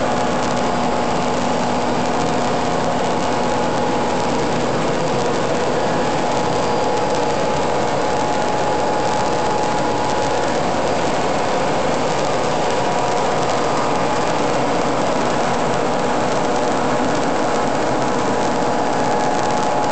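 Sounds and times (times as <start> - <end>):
mid-pitched whine: 0.0 - 19.9.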